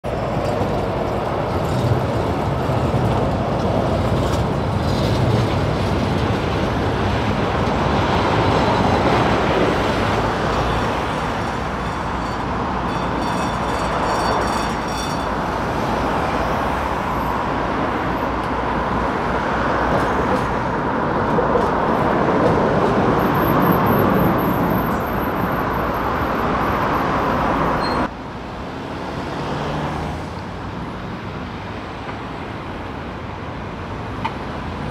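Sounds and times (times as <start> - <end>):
cars passing: 0.0 - 34.9
tram running on tracks: 0.0 - 34.9.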